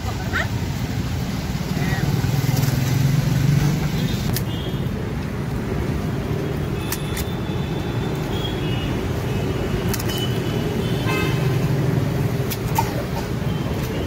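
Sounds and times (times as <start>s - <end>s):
vehicle engines running: 0.0s - 14.0s.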